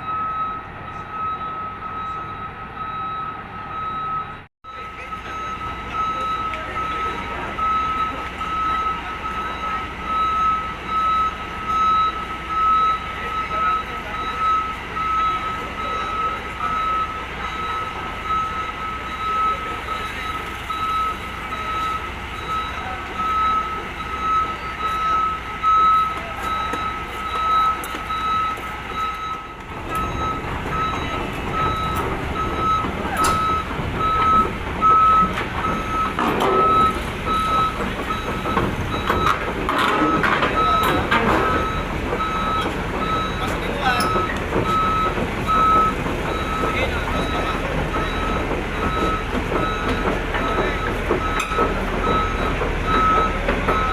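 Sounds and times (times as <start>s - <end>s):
engine rumble: 0.0s - 53.9s
reversing alarm beeping: 0.0s - 53.9s.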